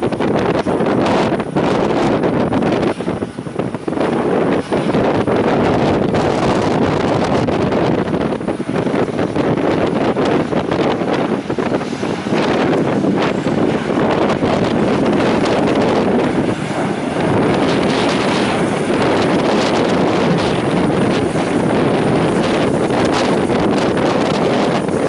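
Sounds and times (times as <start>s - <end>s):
aircraft engine drone: 0.0s - 25.0s
wind buffeting microphone: 0.0s - 25.0s.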